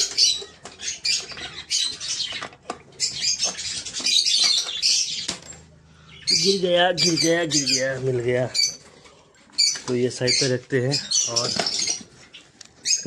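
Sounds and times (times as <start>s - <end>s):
parrots chattering and chirping: 0.0s - 13.0s.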